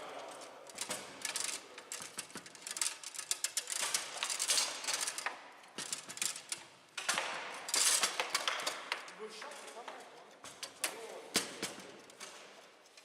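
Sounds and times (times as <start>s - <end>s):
foosball rods rattling: 0.2s - 13.0s.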